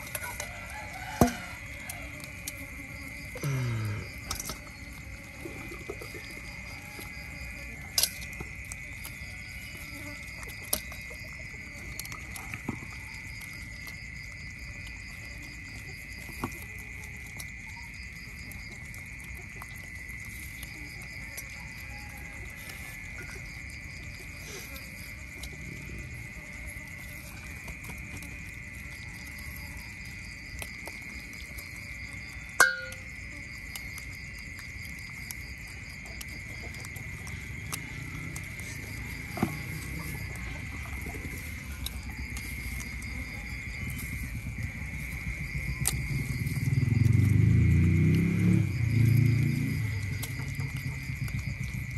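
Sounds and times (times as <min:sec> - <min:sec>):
insects droning: 0:00.0 - 0:51.9
otters crunching fish: 0:00.0 - 0:51.9.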